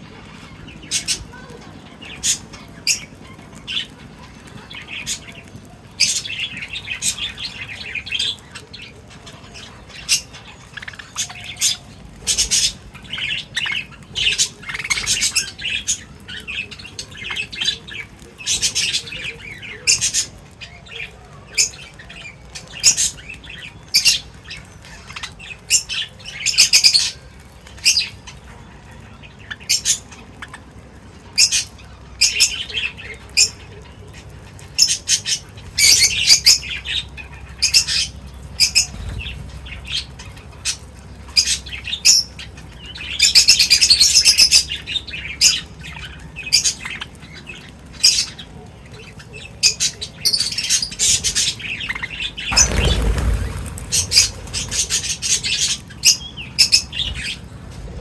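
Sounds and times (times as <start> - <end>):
small birds chirping and squawking: 0.0 - 58.0.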